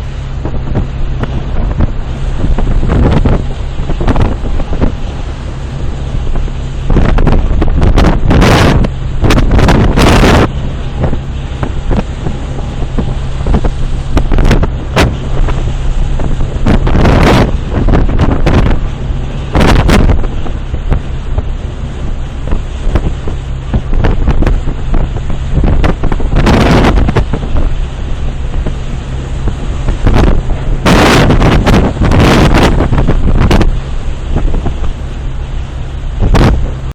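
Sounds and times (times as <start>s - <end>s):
ship engines humming: 0.0s - 36.9s
wind buffeting microphone: 0.0s - 36.9s.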